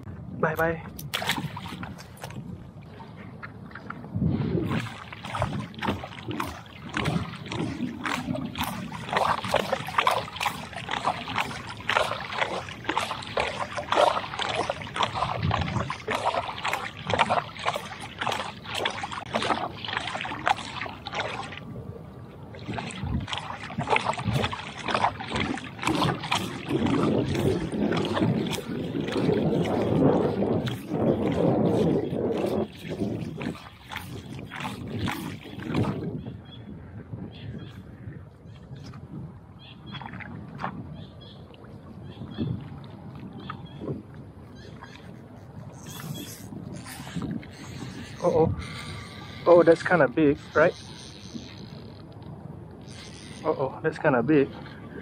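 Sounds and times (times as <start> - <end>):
lure splashing on water: 0.9 - 2.4, 4.7 - 21.8, 22.5 - 36.2, 39.8 - 55.0.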